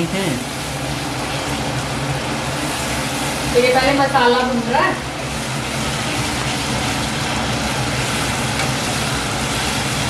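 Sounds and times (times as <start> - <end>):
masala sizzling in oil: 0.0 - 10.0.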